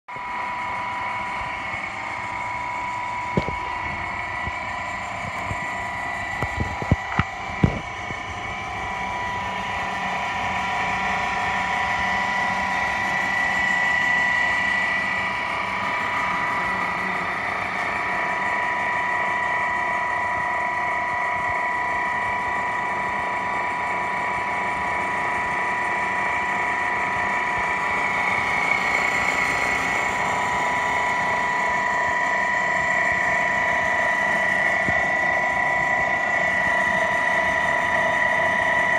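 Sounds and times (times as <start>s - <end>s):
electric motors whining: 0.1s - 38.9s.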